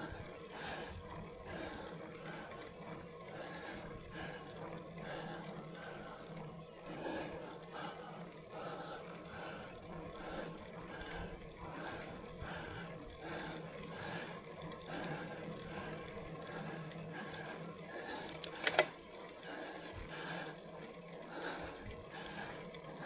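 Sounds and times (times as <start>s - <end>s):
cyclist breathing hard: 0.0s - 23.0s.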